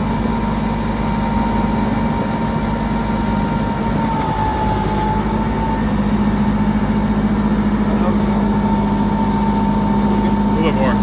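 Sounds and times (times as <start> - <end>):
pump whine: 0.0 - 11.0
truck engine droning: 0.0 - 11.0.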